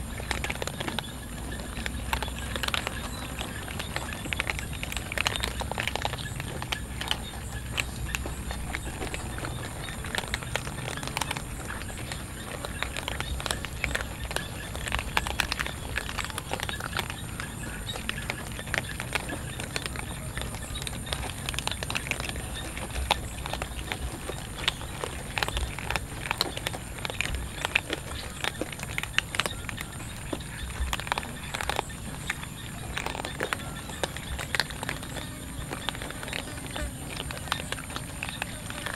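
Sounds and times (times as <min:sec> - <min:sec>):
cats crunching dry kibble: 0:00.0 - 0:38.9.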